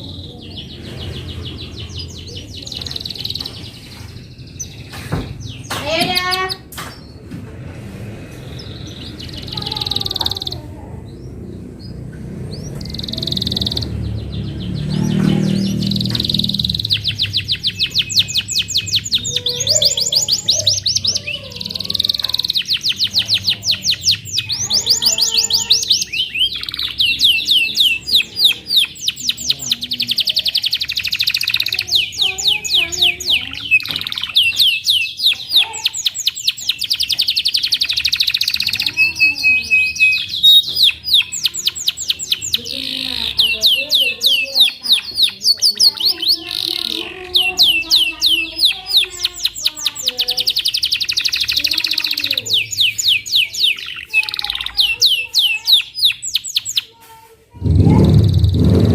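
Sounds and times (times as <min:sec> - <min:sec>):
canary singing trills: 0:00.0 - 0:07.3, 0:08.0 - 0:58.9.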